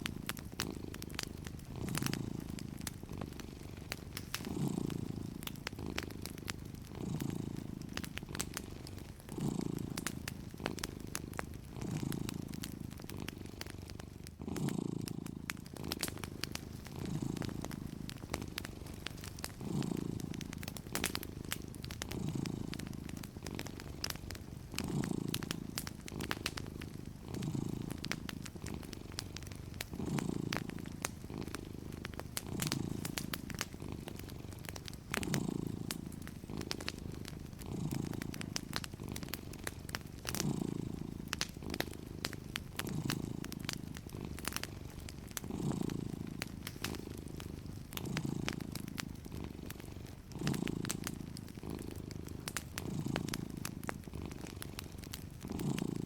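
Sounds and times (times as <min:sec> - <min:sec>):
cat purring: 0:00.0 - 0:56.0
wood fire crackling: 0:00.0 - 0:56.0.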